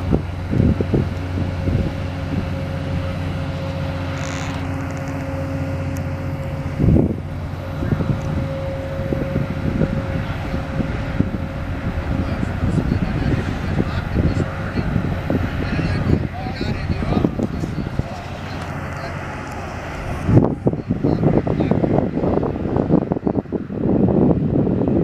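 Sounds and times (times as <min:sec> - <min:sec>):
ferry diesel engines droning: 0:00.0 - 0:25.0
held hum: 0:00.0 - 0:25.0
wind buffeting microphone: 0:00.0 - 0:25.0.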